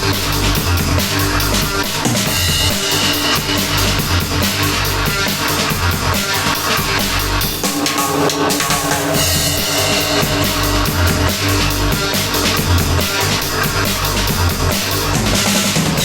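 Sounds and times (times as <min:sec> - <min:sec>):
drum kit beat: 0:00.0 - 0:16.0.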